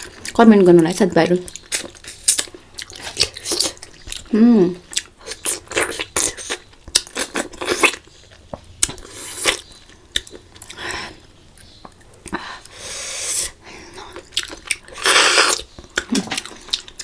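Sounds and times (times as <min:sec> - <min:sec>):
wet chewing and mouth sounds: 0:00.0 - 0:17.0.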